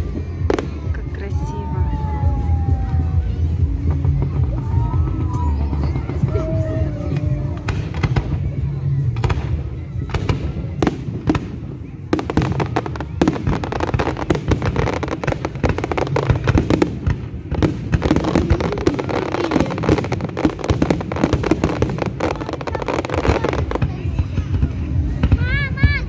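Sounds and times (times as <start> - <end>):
faint music: 0.0 - 26.0
fireworks bursting and crackling: 0.0 - 26.0.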